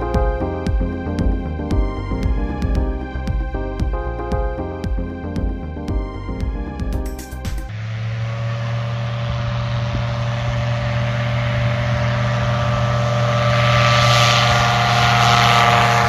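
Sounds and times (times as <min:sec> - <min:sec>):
light aircraft engine and propeller: 0:00.0 - 0:05.3, 0:07.3 - 0:16.0.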